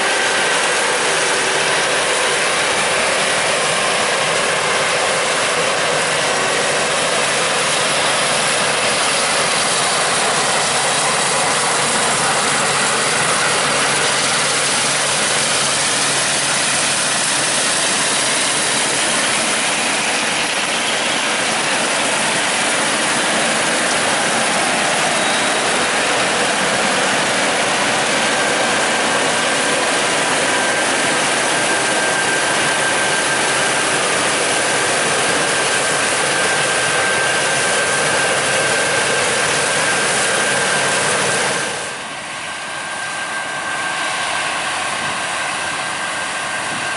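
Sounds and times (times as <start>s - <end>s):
combine harvester working: 0.0s - 46.9s
machinery clatter: 0.0s - 46.9s.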